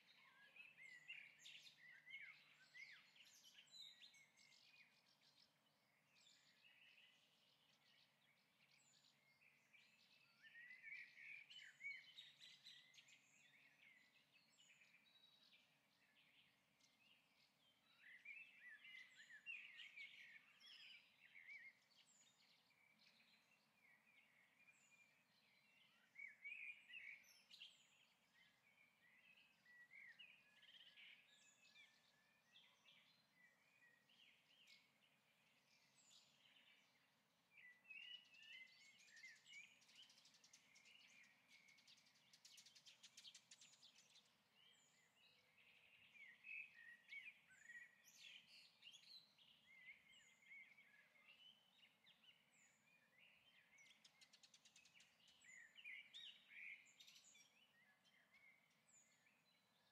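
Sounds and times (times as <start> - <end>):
faint bird chirps: 0.0 - 59.9.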